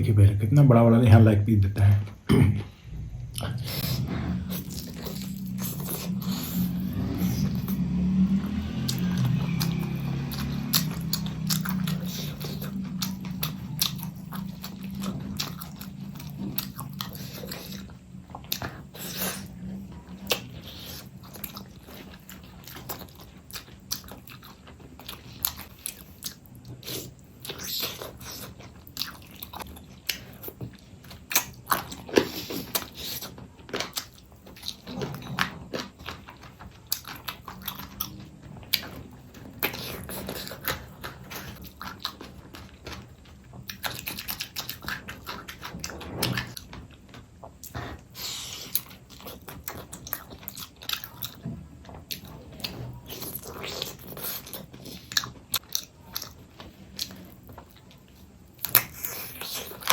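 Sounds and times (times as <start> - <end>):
chewing and crunching food: 3.1 - 59.9.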